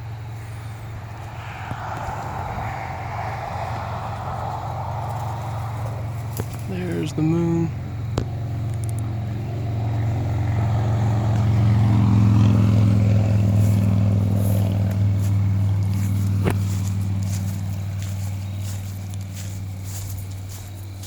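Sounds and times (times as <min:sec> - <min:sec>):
passing motor vehicle engine hum: 0:00.0 - 0:21.0.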